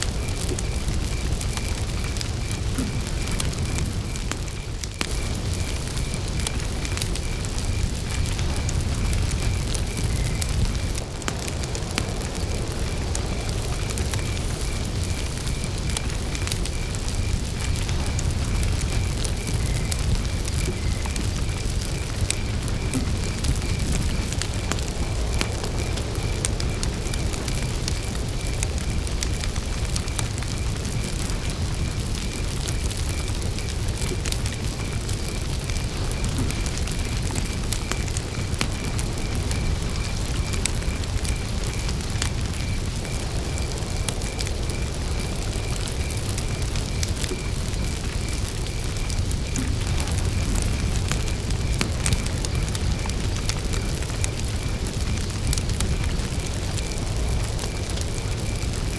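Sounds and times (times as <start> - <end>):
campfire crackling and popping: 0.0 - 58.9
cricket chirping: 0.0 - 58.9.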